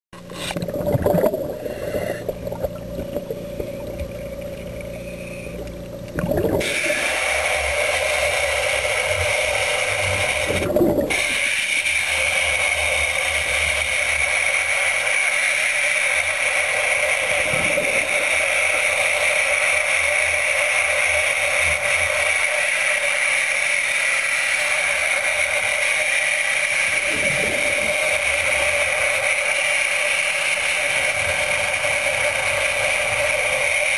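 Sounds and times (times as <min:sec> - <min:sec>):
underwater chainsaw whine: 0:00.2 - 0:33.9.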